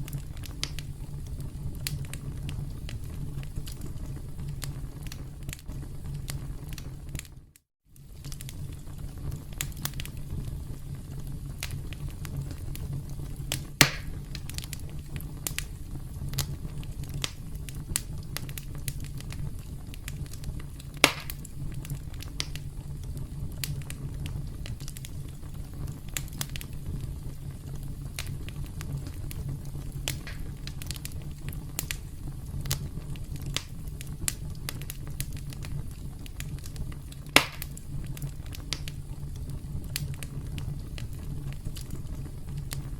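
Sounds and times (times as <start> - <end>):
wood crackling: 0.0 - 7.4, 8.0 - 42.9
campfire burning: 0.0 - 42.9
loud fire pops: 0.0 - 42.9.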